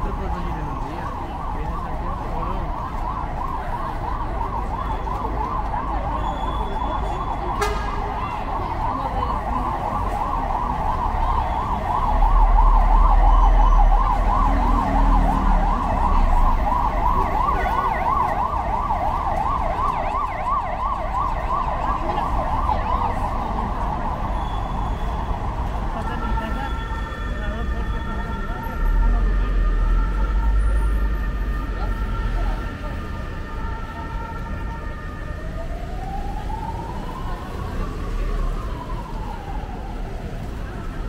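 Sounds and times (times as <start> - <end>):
emergency siren yelping: 0.0 - 41.0.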